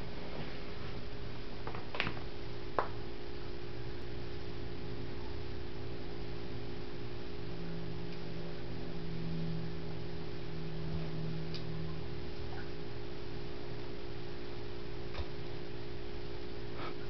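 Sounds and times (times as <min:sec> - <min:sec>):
electric pump humming: 0:00.0 - 0:17.0.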